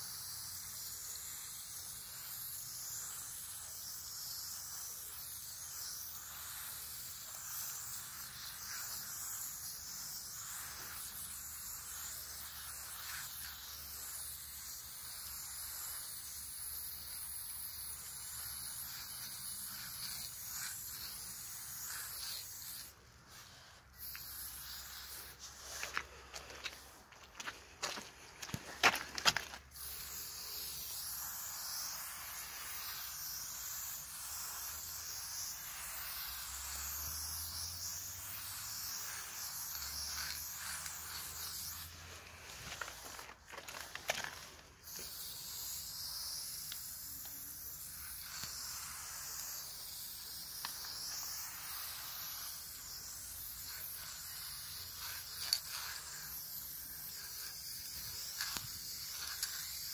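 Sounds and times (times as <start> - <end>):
spray paint can hissing: 0.0 - 59.9.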